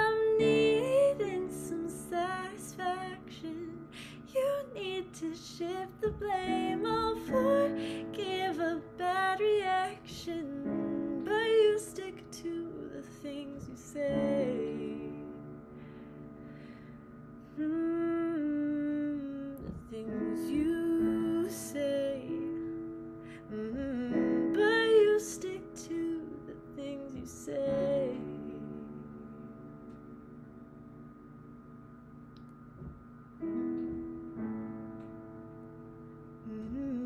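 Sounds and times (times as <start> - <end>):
woman singing a slow ballad: 0.0 - 16.7, 17.4 - 30.0, 36.4 - 37.0.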